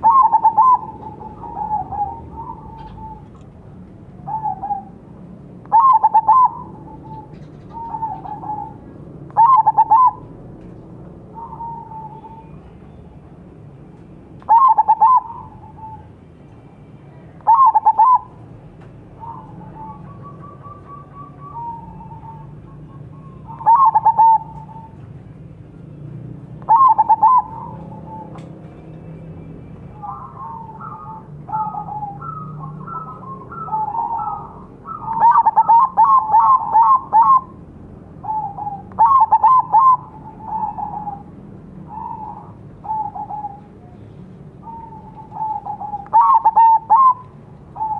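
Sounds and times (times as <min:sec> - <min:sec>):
doves cooing: 0:00.0 - 0:10.4, 0:11.3 - 0:12.6, 0:14.5 - 0:16.1, 0:17.4 - 0:18.4, 0:19.1 - 0:25.0, 0:26.6 - 0:28.6, 0:29.9 - 0:47.9.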